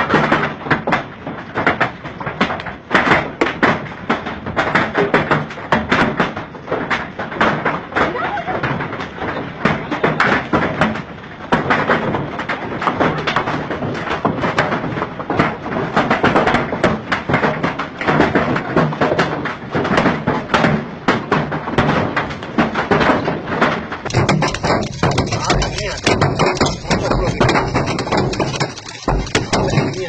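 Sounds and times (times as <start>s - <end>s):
hailstones pelting a hard surface: 0.0s - 30.0s.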